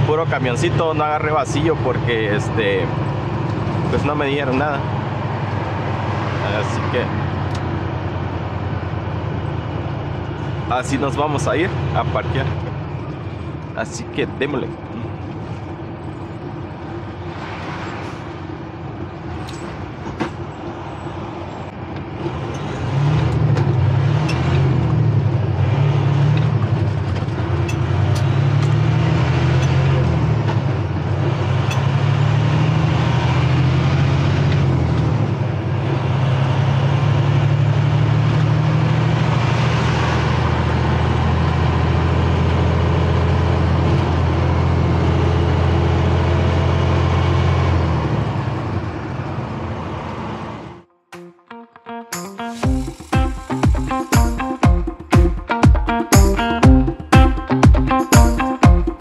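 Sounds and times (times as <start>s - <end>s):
truck diesel engine: 0.0s - 51.3s.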